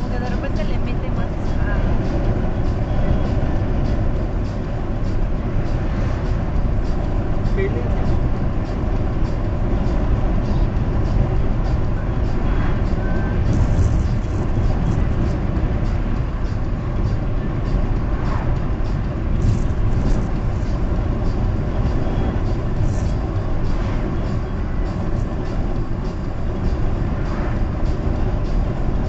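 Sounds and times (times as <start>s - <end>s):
car interior road noise: 0.0s - 29.0s.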